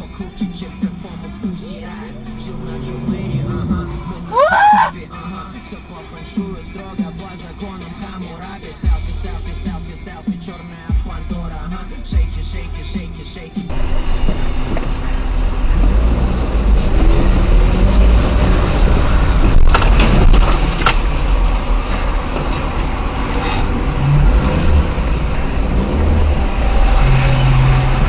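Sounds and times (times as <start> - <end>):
traffic and engine rumble: 0.0 - 28.0.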